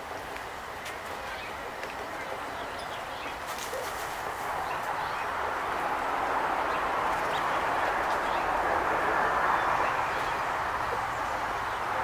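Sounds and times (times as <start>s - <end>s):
outdoor background rush: 0.0s - 12.0s.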